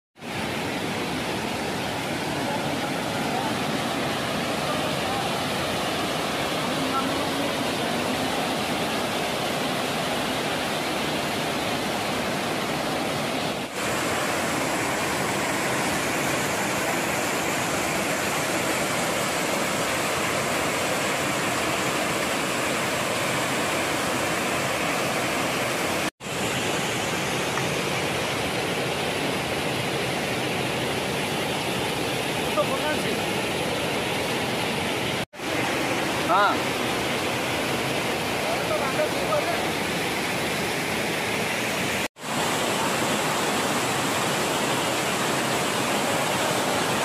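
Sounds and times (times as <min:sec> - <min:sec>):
waterfall rushing onto rock: 0:00.2 - 0:47.0.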